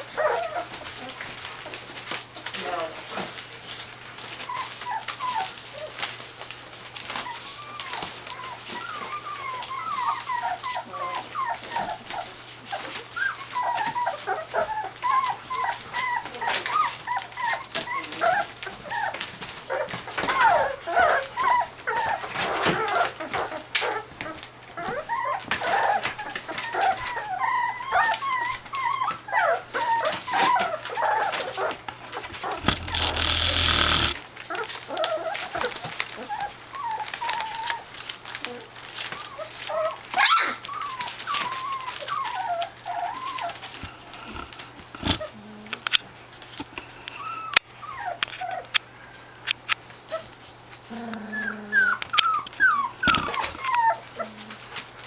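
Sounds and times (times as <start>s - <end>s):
puppies whimpering: 0.0s - 1.5s, 2.6s - 6.2s, 6.9s - 45.8s, 46.8s - 49.2s, 50.0s - 54.8s.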